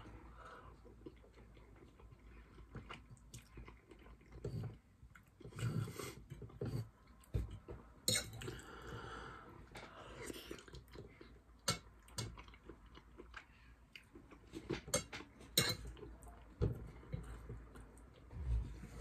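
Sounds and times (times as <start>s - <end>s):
chewing food: 0.1s - 7.7s, 10.1s - 18.3s.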